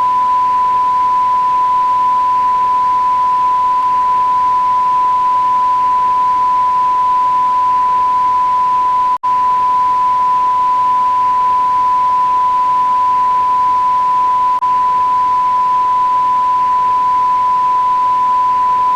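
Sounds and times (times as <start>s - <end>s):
steady test tone beep: 0.0s - 18.9s.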